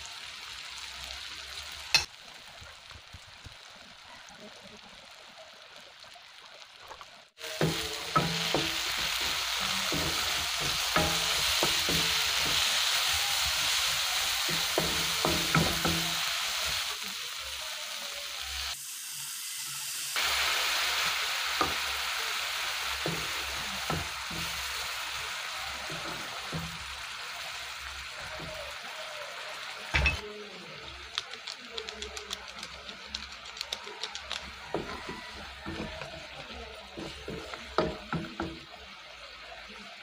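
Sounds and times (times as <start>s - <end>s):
food sizzling in a wok: 0.0s - 40.0s.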